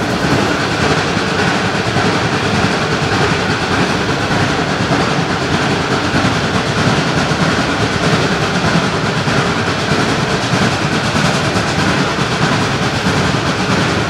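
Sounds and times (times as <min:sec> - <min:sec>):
steam train running on rails: 0:00.0 - 0:14.0.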